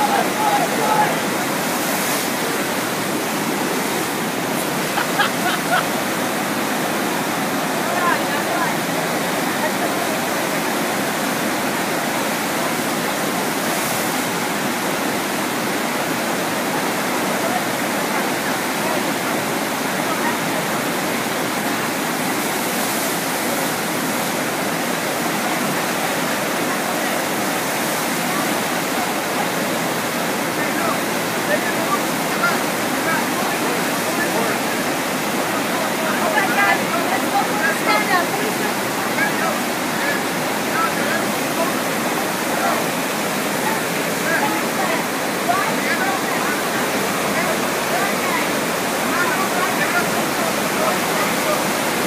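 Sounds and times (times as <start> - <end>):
water rushing up a slope: 0.0 - 52.0.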